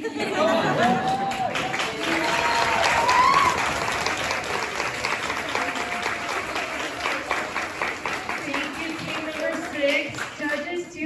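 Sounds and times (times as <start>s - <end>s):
audience applauding: 0.4s - 10.7s.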